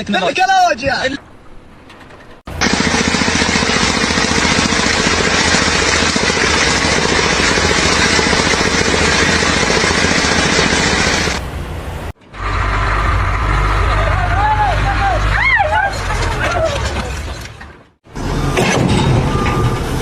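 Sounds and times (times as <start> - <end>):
construction machinery pulsing: 1.2 - 20.0.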